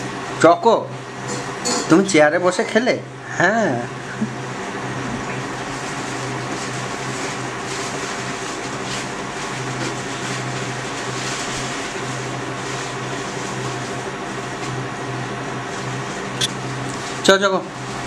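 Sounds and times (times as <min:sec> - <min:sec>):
fan motor humming: 0:00.0 - 0:18.0.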